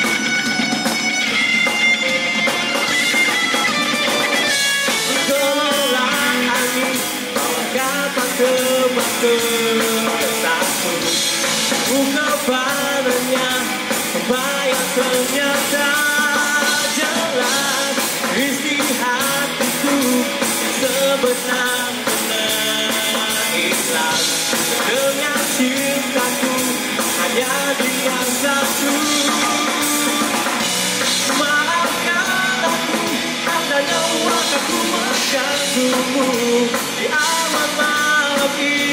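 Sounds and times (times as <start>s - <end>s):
drum kit beat: 0.0s - 38.9s
electric guitar: 0.0s - 38.9s
man singing: 4.2s - 38.9s.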